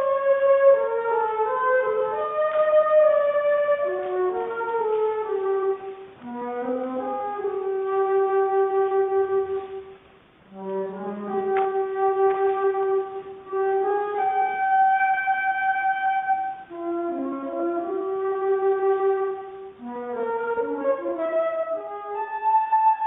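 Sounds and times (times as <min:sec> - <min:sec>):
wind instrument slow melody: 0:00.0 - 0:23.0.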